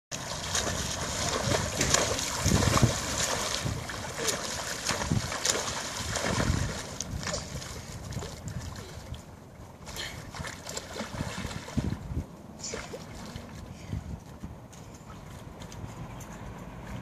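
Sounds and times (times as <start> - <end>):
swimmer splashing: 0.1 - 13.8.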